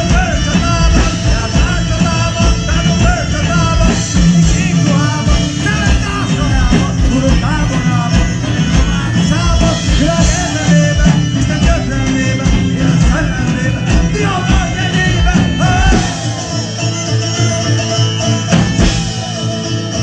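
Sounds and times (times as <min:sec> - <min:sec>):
person singing: 0:00.0 - 0:17.9
live folk-rock band: 0:00.0 - 0:20.0.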